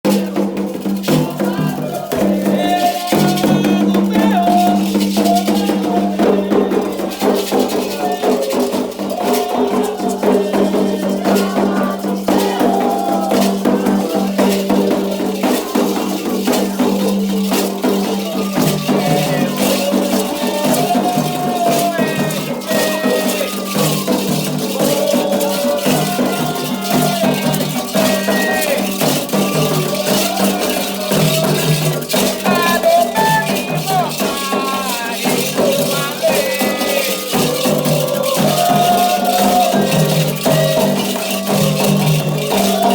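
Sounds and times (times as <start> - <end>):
drums: 0.0 - 42.9
rattles shaken: 0.1 - 42.9
voices singing a chant: 0.1 - 42.9.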